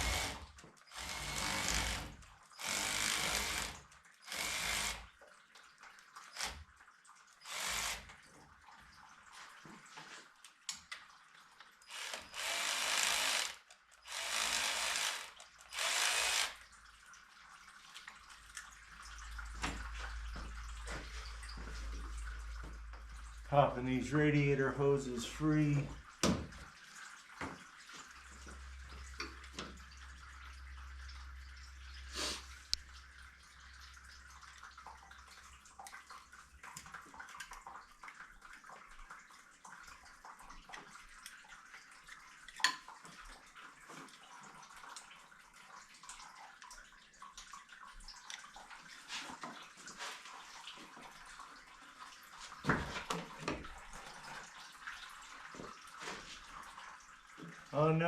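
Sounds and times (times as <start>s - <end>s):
coolant splashing into a drain pan: 0.0s - 58.0s.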